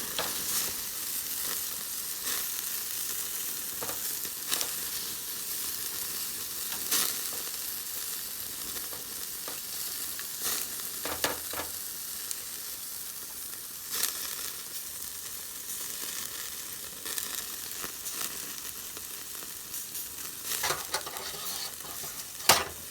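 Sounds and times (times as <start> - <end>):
meat sizzling on a grill: 0.0 - 22.9.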